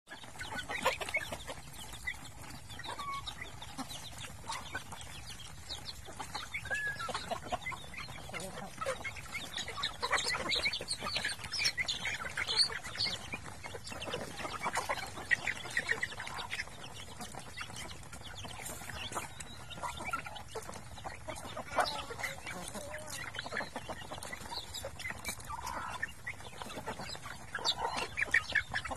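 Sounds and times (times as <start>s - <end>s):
chickens clucking: 0.1s - 28.9s.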